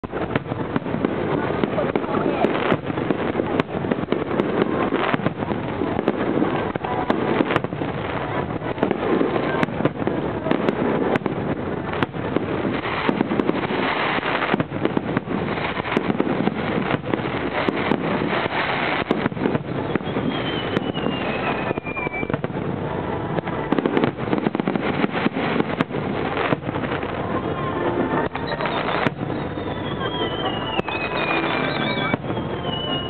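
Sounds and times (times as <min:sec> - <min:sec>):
firework crackle: 0:00.0 - 0:33.0.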